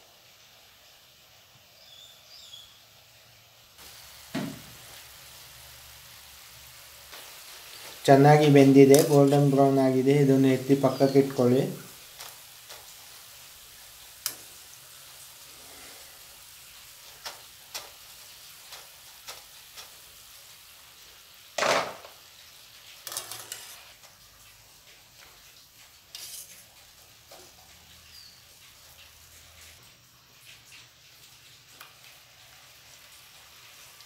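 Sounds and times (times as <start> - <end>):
oil sizzling: 0.0 - 34.0.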